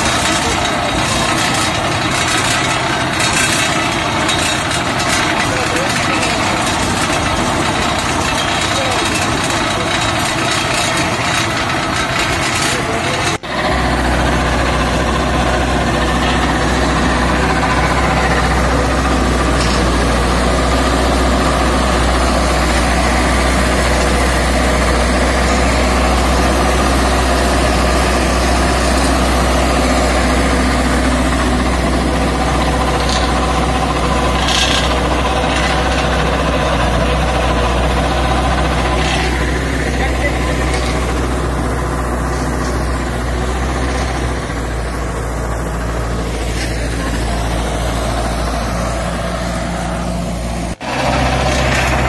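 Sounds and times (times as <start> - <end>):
tractor engine humming: 0.0 - 52.0.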